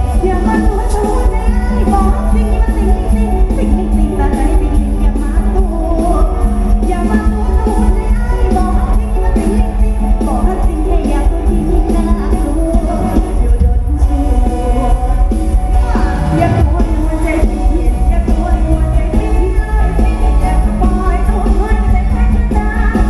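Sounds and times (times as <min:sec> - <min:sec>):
heavy bass: 0:00.0 - 0:23.0
live band music: 0:00.0 - 0:23.0
person singing: 0:00.0 - 0:23.0.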